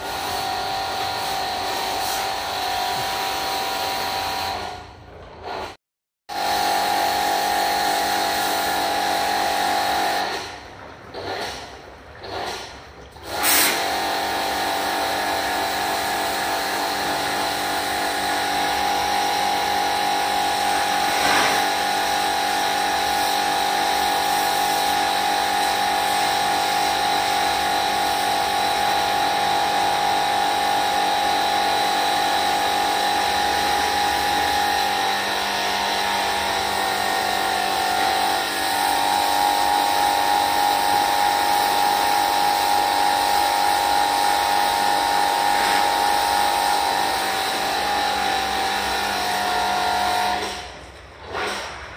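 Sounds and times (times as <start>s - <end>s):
pressure washer pump whine: 0.0s - 5.7s, 6.3s - 51.9s.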